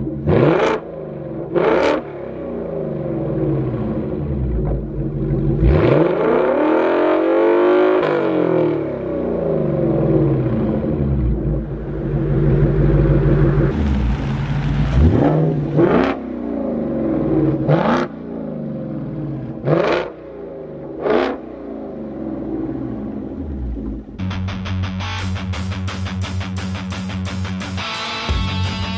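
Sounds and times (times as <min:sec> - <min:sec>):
car engine revving and idling: 0:00.0 - 0:28.9.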